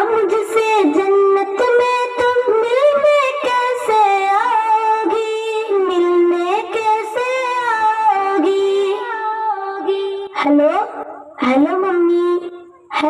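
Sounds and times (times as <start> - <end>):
woman singing wordless melody: 0.0 - 13.0.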